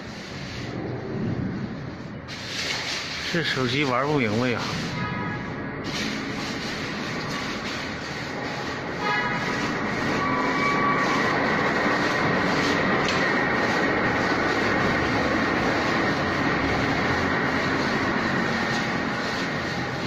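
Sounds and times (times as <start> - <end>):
plastering machine rumbling: 0.0 - 20.0.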